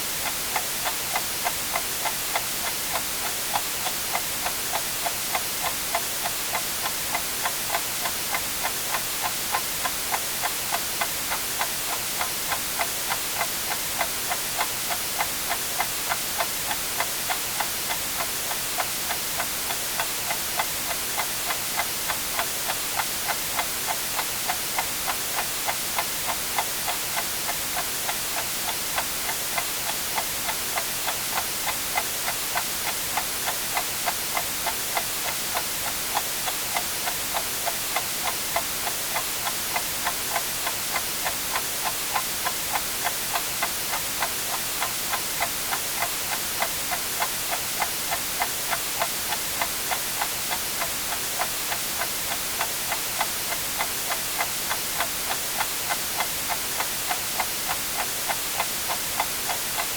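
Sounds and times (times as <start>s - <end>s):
white noise hiss: 0.0s - 59.9s
clock ticking: 0.2s - 59.9s.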